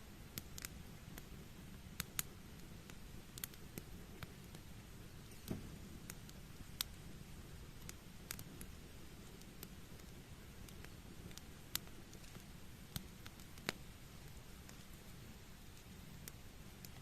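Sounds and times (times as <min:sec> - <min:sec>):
steady low background noise: 0:00.0 - 0:17.0
wood fire crackling: 0:00.0 - 0:17.0.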